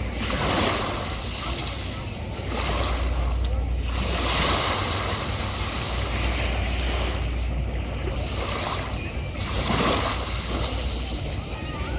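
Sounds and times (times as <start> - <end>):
sea waves on sandy beach: 0.0 - 11.9
wind rumble on microphone: 0.0 - 11.9.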